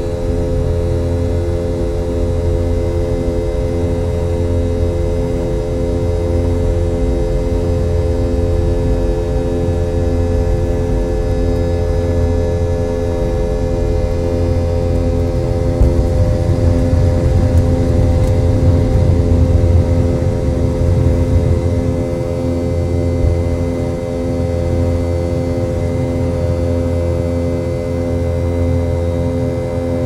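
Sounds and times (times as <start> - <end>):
airplane cabin hum: 0.0 - 30.0
constant whining tones: 0.0 - 30.0
low pulsing tone: 0.0 - 30.0.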